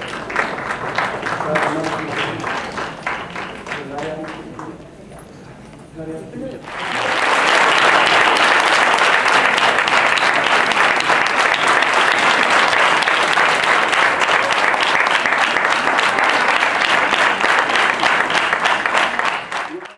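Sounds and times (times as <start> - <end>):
audience applauding: 0.0 - 4.7, 6.6 - 19.9.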